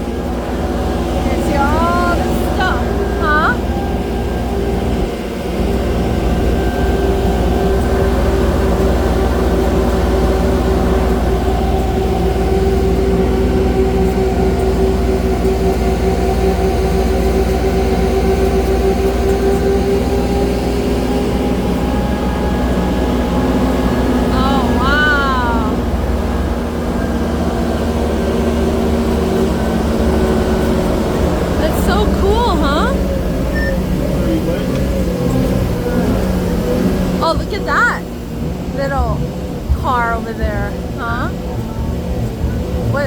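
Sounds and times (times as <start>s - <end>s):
droning whine: 0.0s - 43.0s
vehicle rumble and road noise: 0.0s - 43.0s.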